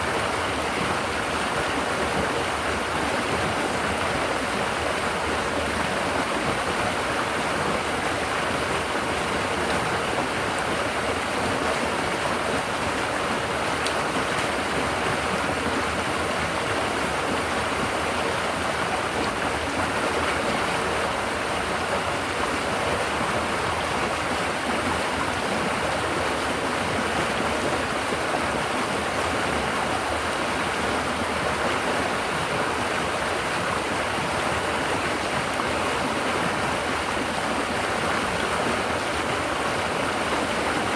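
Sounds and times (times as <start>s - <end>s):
river water babbling over rocks: 0.0s - 40.9s.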